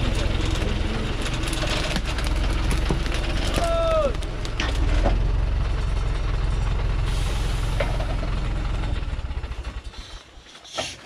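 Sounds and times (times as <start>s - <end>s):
diesel engine idling: 0.0s - 10.7s.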